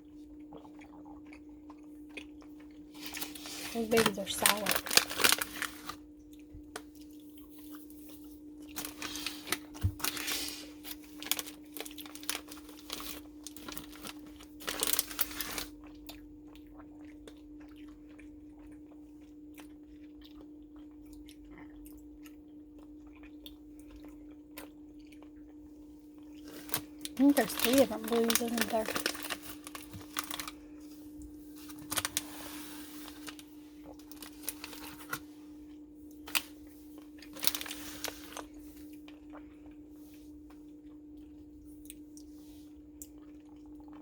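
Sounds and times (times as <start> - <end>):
chewing and crunching candy: 0.0 - 44.0
steady low hum: 0.0 - 44.0.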